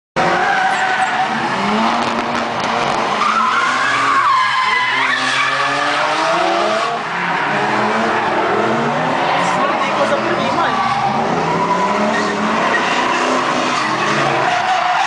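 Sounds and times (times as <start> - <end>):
tyres screeching: 0.2 - 1.9, 3.1 - 15.0
car engine revving: 0.2 - 15.0.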